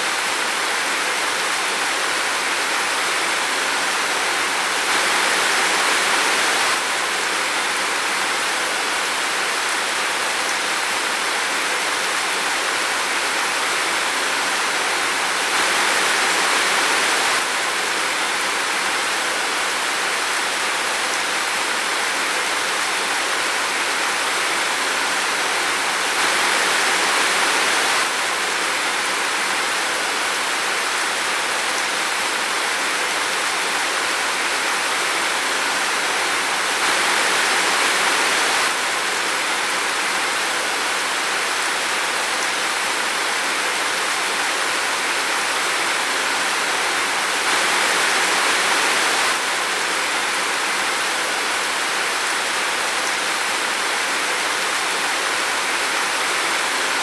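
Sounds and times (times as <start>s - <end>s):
rain falling in a forest: 0.0s - 57.0s.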